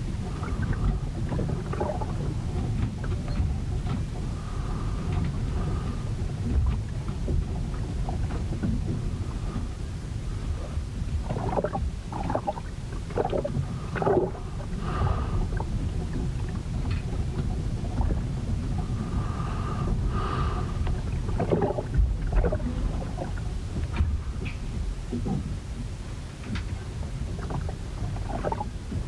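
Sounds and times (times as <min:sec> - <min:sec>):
wind and waves buffeting hull: 0:00.0 - 0:29.0.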